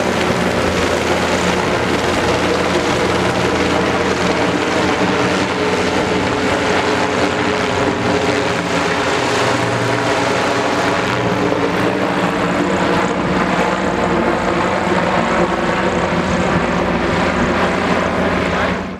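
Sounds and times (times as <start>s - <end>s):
airship engines and propellers droning: 0.0s - 18.9s.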